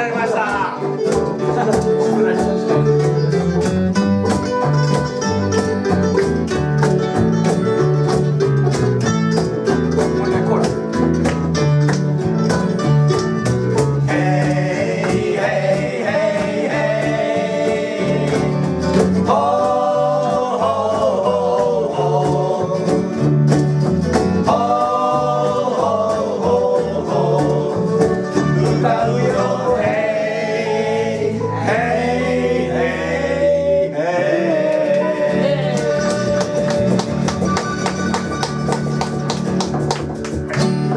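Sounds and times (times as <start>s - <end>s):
strummed acoustic guitar: 0.0s - 40.9s.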